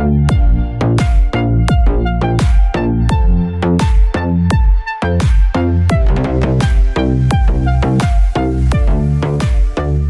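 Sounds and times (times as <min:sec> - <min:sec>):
electronic music with bass drops: 0:00.0 - 0:10.0.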